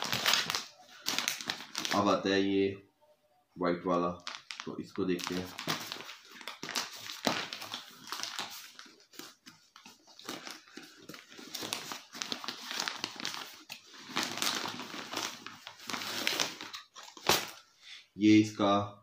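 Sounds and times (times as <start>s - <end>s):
plastic packet crinkling: 0.0s - 2.2s, 4.2s - 17.6s.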